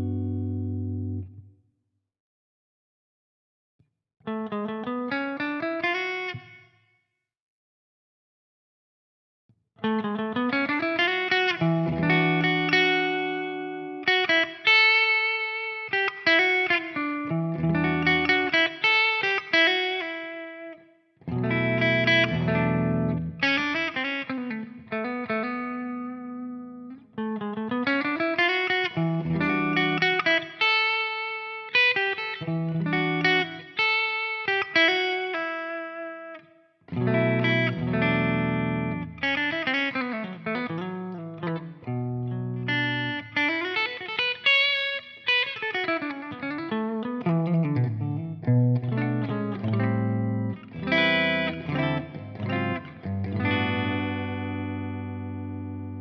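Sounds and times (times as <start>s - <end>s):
electric guitar melody: 0.0s - 1.5s, 4.2s - 6.7s, 9.8s - 56.0s.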